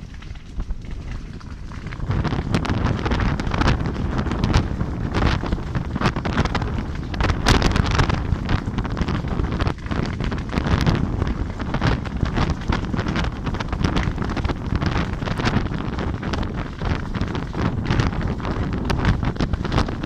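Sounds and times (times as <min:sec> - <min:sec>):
fire crackling and popping: 0:00.0 - 0:20.0
wind buffeting microphone: 0:00.0 - 0:20.0.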